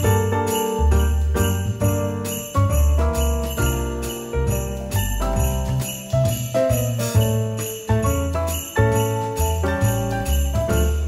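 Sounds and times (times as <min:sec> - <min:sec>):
bass line: 0:00.0 - 0:11.0
sleigh bells shaking in rhythm: 0:00.0 - 0:11.0.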